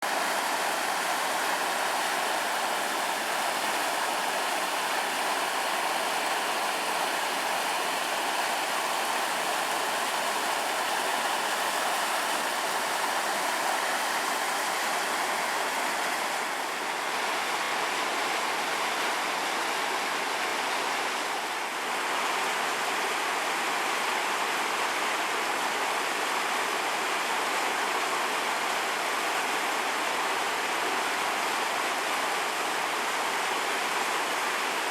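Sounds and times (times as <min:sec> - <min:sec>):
floodwater rushing over road: 0:00.0 - 0:34.9.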